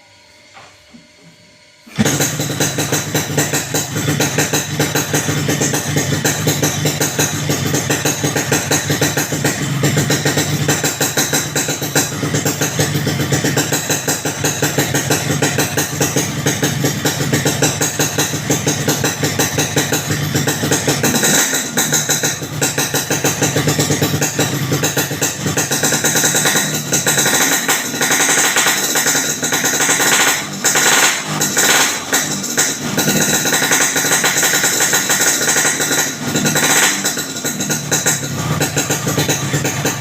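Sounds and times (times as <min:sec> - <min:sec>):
motorcycle exhaust running loud: 0:01.3 - 0:40.0.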